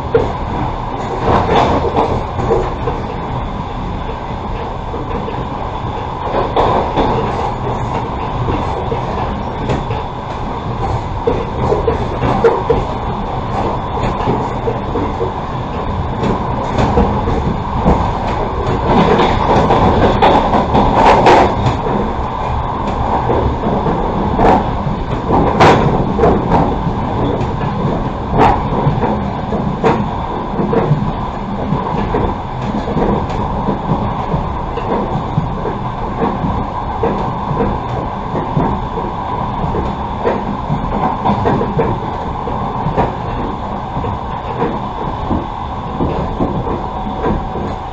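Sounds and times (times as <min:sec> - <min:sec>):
train carriage rumbling on track: 0:00.0 - 0:47.9.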